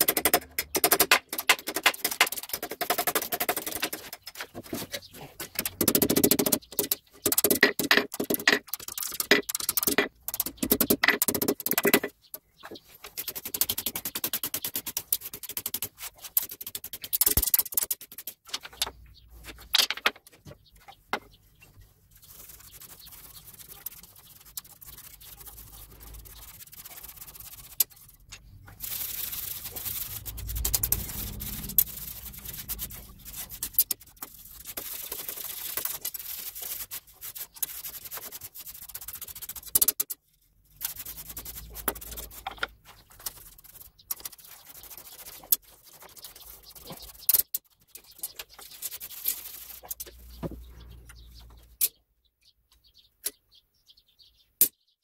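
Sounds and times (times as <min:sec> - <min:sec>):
wire brush scrubbing wire rope: 0:00.0 - 0:12.1, 0:12.8 - 0:18.5, 0:21.9 - 0:50.2.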